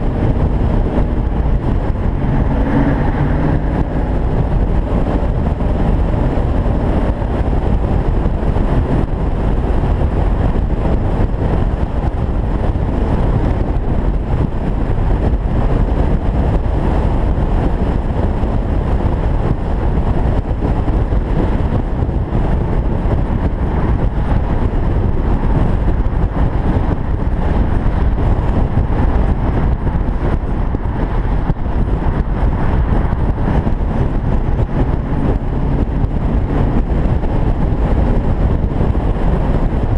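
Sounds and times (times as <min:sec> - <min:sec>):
wind and road noise: 0:00.0 - 0:39.9
wind buffeting microphone: 0:00.0 - 0:39.9.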